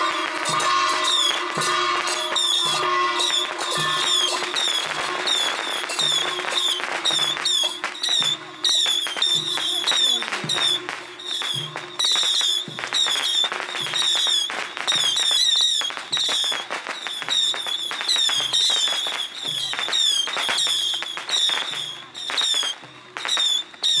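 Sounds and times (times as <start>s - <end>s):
firecrackers cracking: 0.0s - 24.0s.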